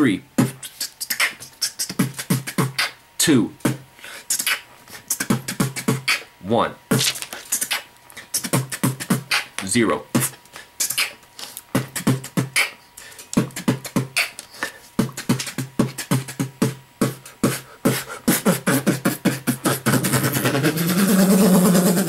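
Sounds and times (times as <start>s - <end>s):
beatboxing into microphone: 0.0s - 6.3s, 6.9s - 22.0s.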